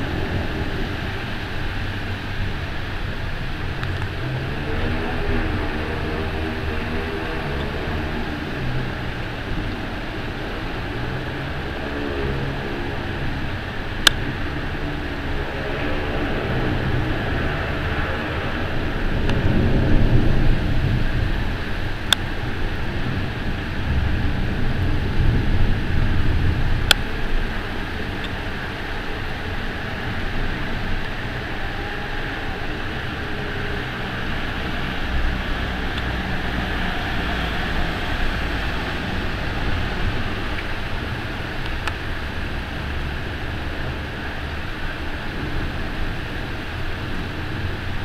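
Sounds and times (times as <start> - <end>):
bus driving through floodwater: 0.0 - 48.0
heavy rain: 0.0 - 48.0
wind: 0.0 - 48.0.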